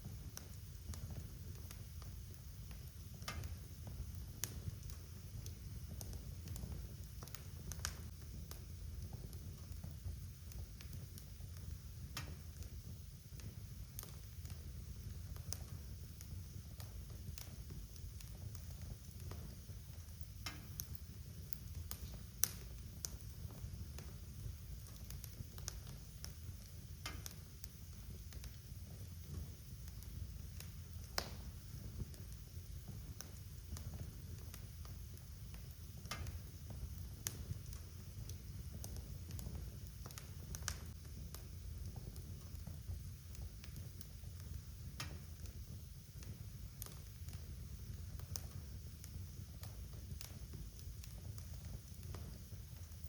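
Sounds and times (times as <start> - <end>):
rumble of fire flames: 0.0 - 53.0
wood fire crackling and popping: 0.0 - 53.0.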